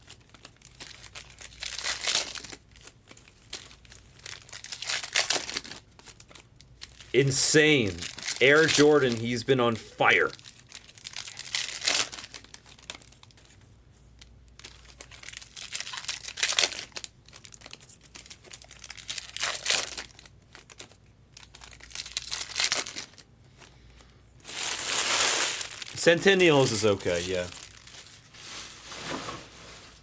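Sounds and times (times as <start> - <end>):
card wrappers crinkling and tearing: 0.0 - 23.7, 24.4 - 29.1.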